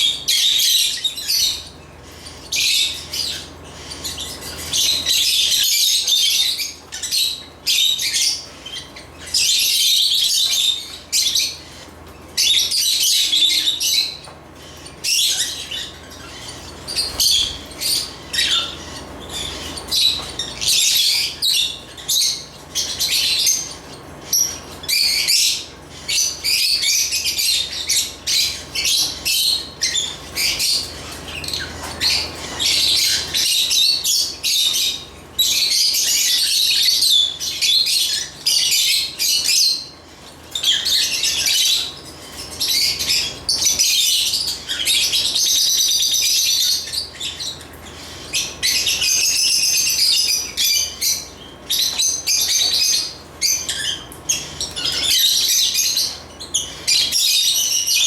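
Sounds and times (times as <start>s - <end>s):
lovebirds chirping and squawking: 0.0s - 58.0s.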